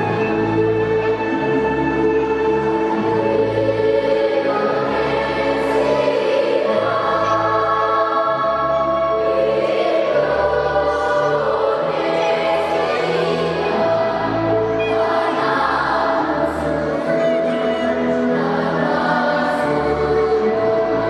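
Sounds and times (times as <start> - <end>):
children's choir singing: 0.0 - 21.0
low instrumental accompaniment: 0.0 - 21.0.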